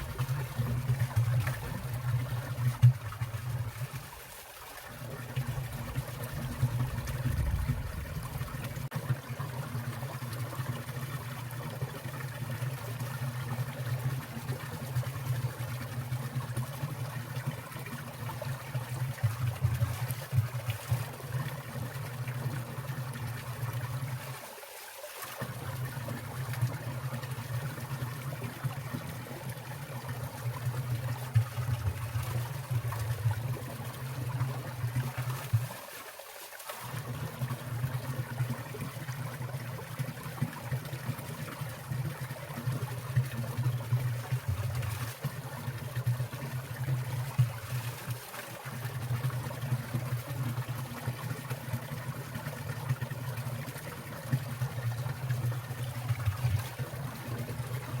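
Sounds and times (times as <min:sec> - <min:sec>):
stream trickling and splashing: 0:00.0 - 0:58.0.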